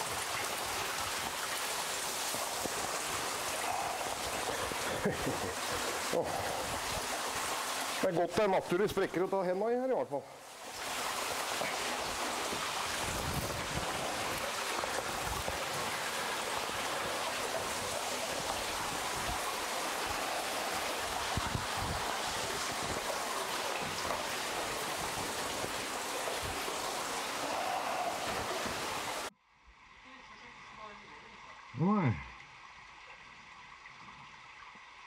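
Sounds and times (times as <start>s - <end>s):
water rushing in a cave: 0.0s - 29.3s.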